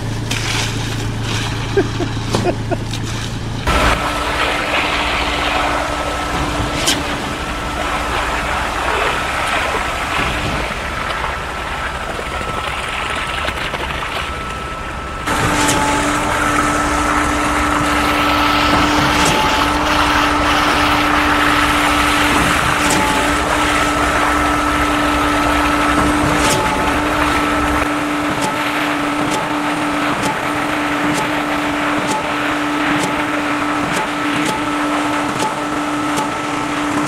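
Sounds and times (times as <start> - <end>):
concrete pump engine running: 0.0 - 37.0.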